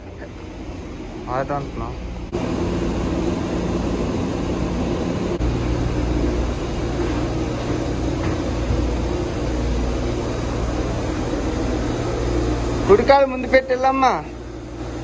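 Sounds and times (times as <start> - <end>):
aircraft and machinery drone: 0.0 - 15.0.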